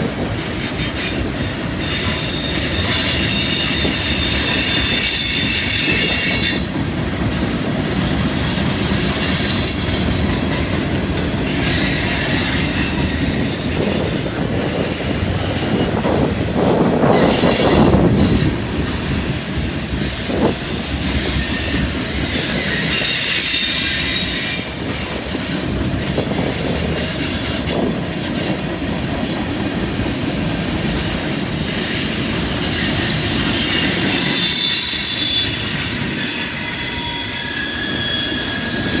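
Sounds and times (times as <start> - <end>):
train rumble and clatter: 0.0 - 39.0
train wheels squealing: 0.0 - 39.0.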